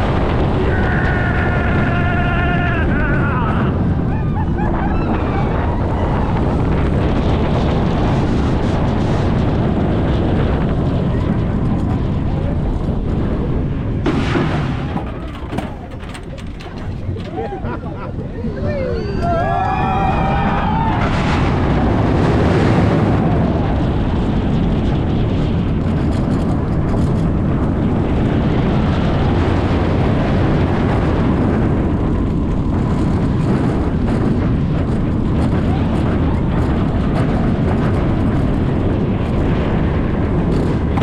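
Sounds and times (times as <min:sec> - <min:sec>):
roller coaster rumbling: 0:00.0 - 0:41.0
wind rushing over microphone: 0:00.0 - 0:41.0.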